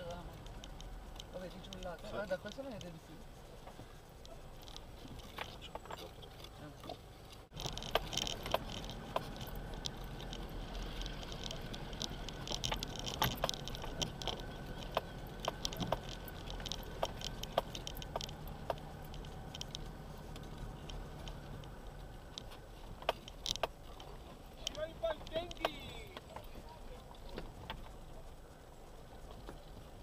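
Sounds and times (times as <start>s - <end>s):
vehicle engine drone: 0.0s - 30.0s
vehicle rattling on gravel: 0.0s - 30.0s.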